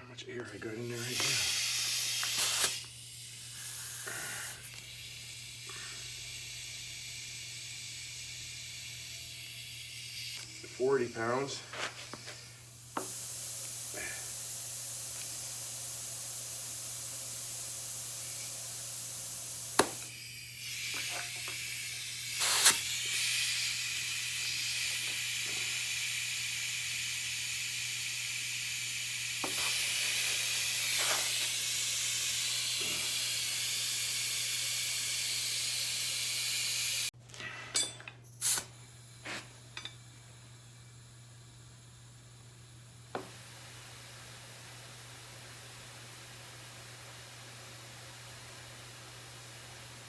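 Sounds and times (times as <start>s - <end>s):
compressed air hissing into a tire: 0.5s - 37.2s, 38.3s - 50.0s.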